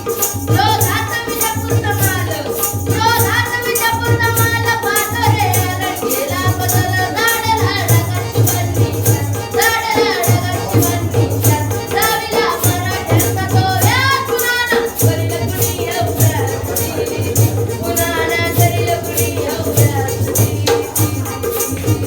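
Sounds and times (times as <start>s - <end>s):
jingling percussion: 0.0s - 22.0s.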